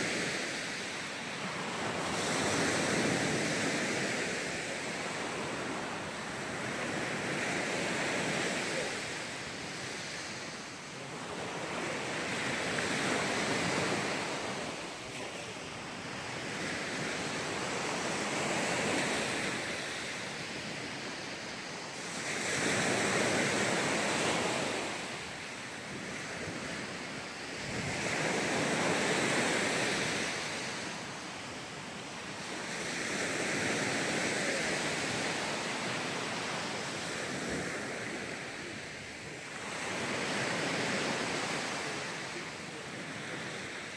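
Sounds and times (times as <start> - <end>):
small waves breaking on sand: 0.0 - 43.9.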